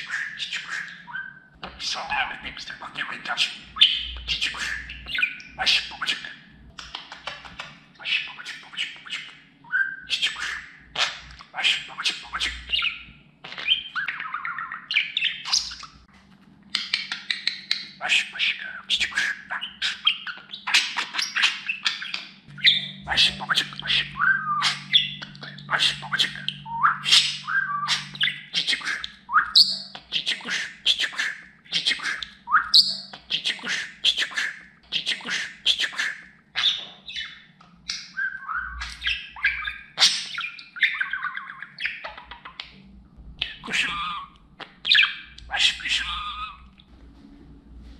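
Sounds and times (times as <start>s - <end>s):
budgerigar warbling and chattering: 0.0s - 16.0s, 16.7s - 42.8s, 43.4s - 46.7s.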